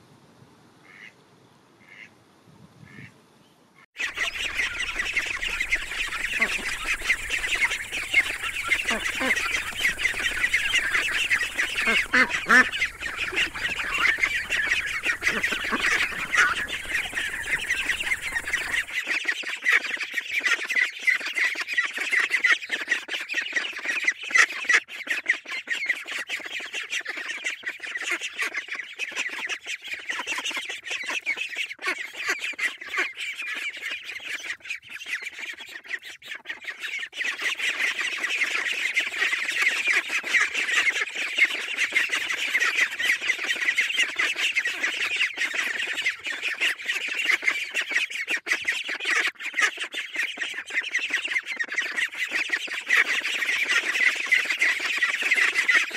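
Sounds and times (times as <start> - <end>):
ducklings peeping: 4.0 - 55.9.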